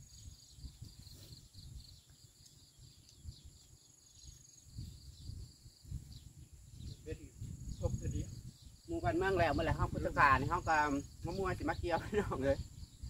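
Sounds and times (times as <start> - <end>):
crickets chirping trill: 0.0 - 13.0.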